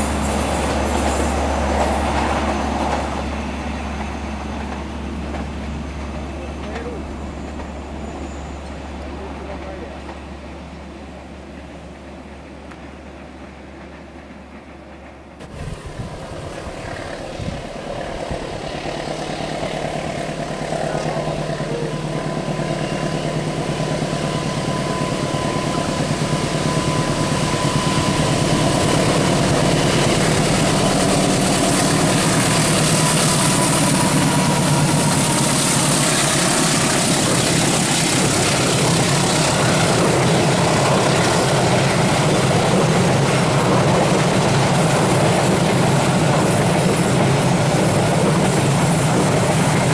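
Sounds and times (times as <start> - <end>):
passenger train rumbling past: 0.0 - 49.9.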